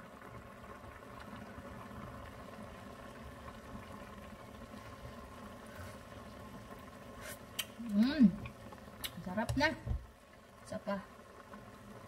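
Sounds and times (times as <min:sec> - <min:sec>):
broth bubbling in pan: 0:00.0 - 0:12.0
faint steady hum: 0:00.0 - 0:12.0.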